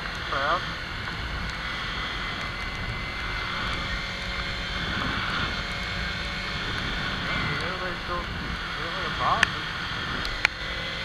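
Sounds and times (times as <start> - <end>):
motorcycle engine running: 0.0 - 11.0
wet road noise: 0.0 - 11.0
wind rushing: 0.6 - 11.0.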